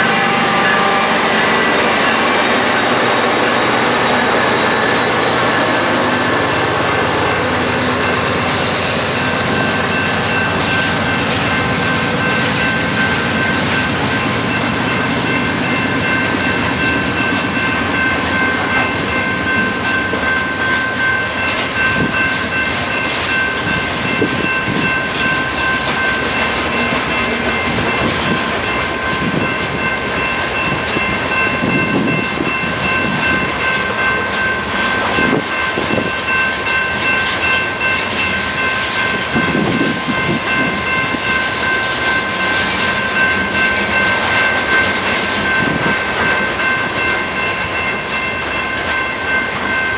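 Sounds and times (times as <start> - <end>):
steady high ringing tone: 0.0 - 49.9.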